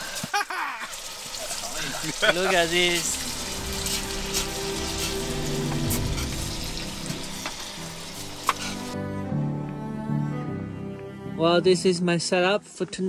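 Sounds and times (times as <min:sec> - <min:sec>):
soft background music: 0:02.4 - 0:13.0.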